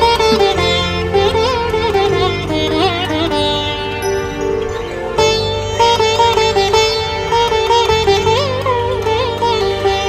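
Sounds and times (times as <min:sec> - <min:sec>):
instrumental melody of held notes: 0:00.0 - 0:10.0
steady low drone: 0:00.0 - 0:10.0.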